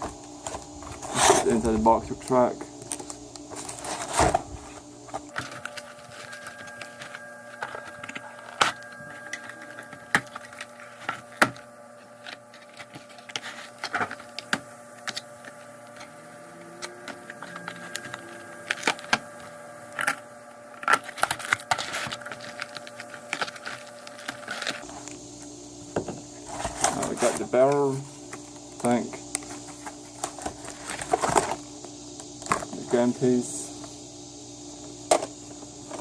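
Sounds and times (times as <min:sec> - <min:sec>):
plastic parts and packaging handled: 0:00.0 - 0:25.2, 0:26.1 - 0:33.9
steady hum: 0:00.0 - 0:36.0.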